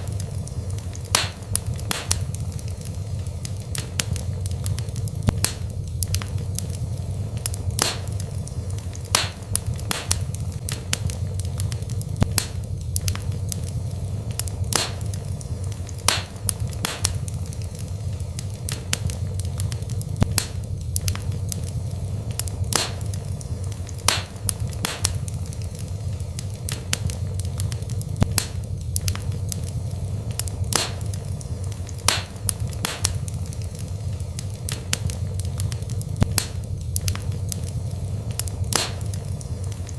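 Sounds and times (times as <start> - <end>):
fire burning in fireplace: 0.0 - 39.9.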